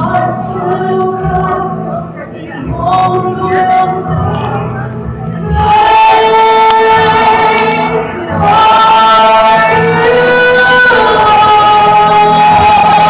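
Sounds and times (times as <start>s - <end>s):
instrumental backing: 0.0s - 13.0s
woman singing: 0.0s - 13.0s.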